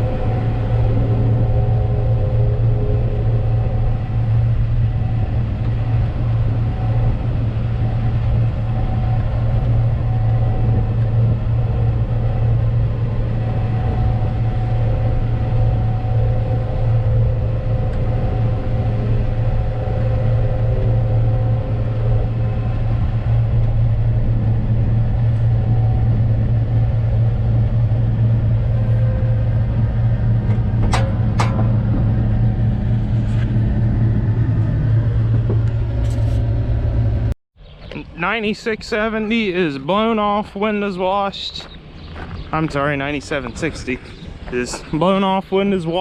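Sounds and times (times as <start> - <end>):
engine droning steadily: 0.0 - 46.0.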